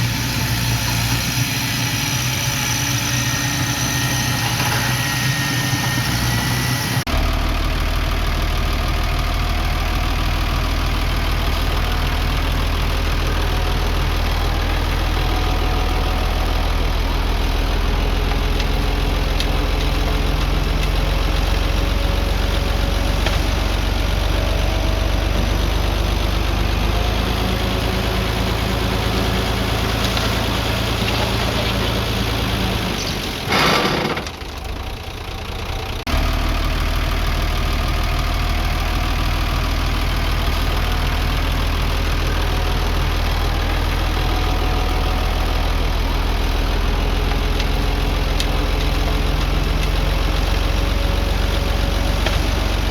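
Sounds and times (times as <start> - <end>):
heavy machinery diesel engine droning: 0.0 - 52.9.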